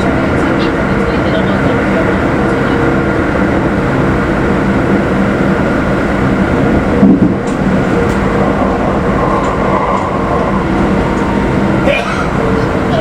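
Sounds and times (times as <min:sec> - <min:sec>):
constant hum: 0:00.0 - 0:13.0
train wheels rumbling on rail: 0:00.0 - 0:13.0.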